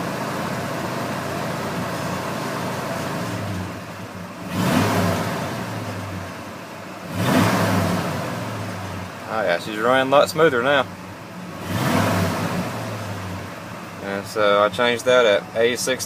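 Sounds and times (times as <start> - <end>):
truck engine idling and revving: 0.0 - 16.0.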